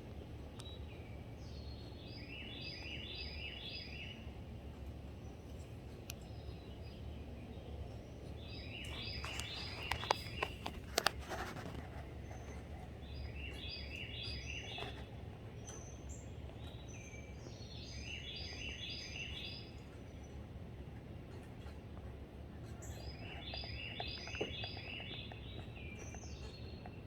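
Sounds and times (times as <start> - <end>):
small bird chirping: 0.6 - 20.5, 22.6 - 27.0.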